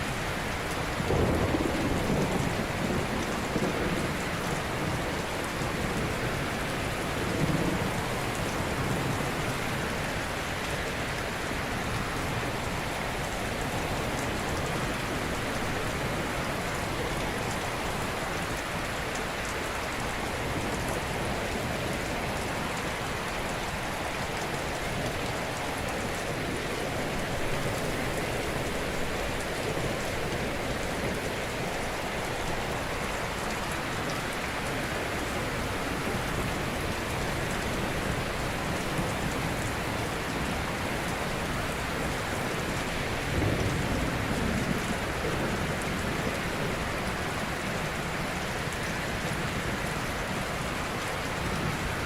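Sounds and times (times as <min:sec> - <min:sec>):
ocean surf washing on shore: 0:00.0 - 0:52.0.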